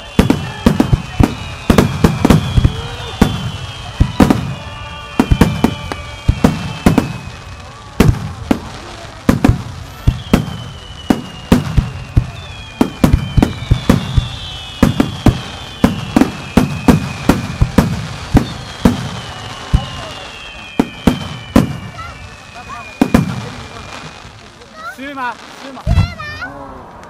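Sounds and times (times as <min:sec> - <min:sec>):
fireworks bursts: 0:00.0 - 0:27.0
fireworks whistling: 0:00.0 - 0:27.0.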